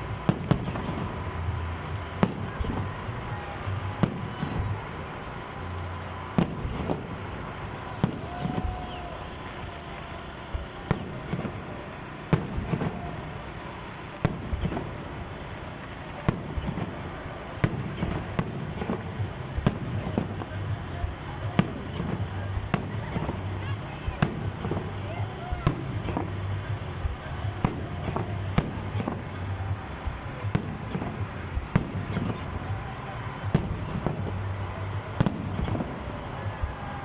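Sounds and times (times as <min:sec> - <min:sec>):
firework shells bursting: 0:00.0 - 0:37.0
steady background noise: 0:00.0 - 0:37.0.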